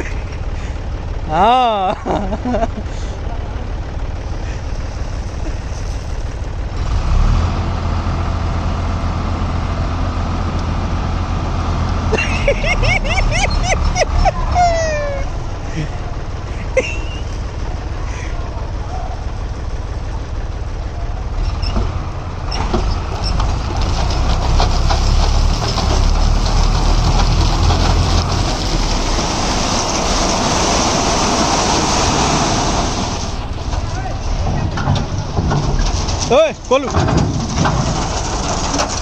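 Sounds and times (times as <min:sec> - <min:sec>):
heavy machinery diesel engine rumbling: 0:00.0 - 0:39.0.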